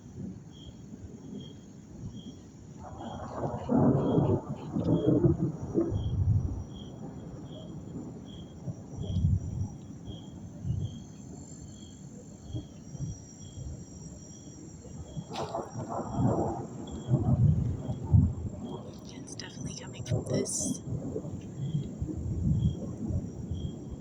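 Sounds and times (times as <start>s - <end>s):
insect chirping: 0.0s - 24.0s.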